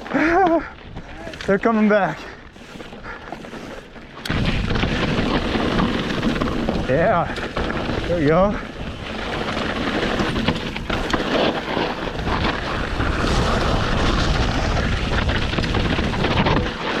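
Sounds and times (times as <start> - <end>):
bike rattling and knocking: 0.0 - 17.0
bike tyres rolling on rocky dirt: 0.0 - 17.0.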